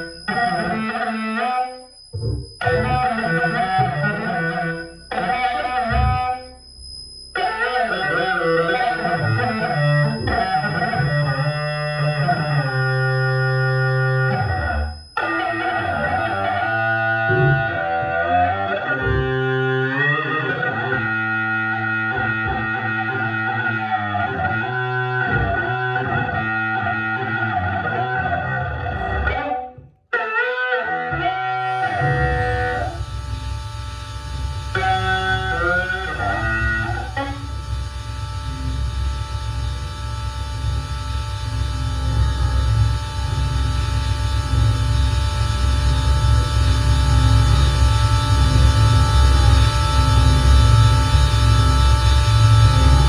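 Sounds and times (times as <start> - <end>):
distorted electric guitar tones: 0.0 - 53.0.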